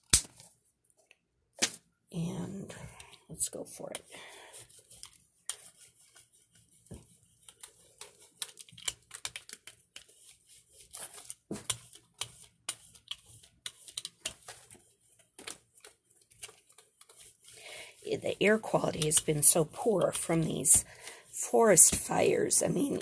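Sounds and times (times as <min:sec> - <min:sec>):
rubber roller crackling on paint: 0:04.6 - 0:23.0.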